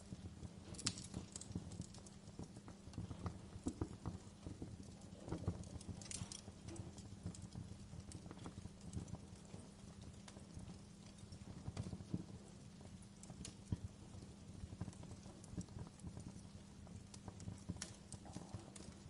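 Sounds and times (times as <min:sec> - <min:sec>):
steady low hum: 0:00.0 - 0:19.0
wood fire crackling: 0:00.0 - 0:19.0.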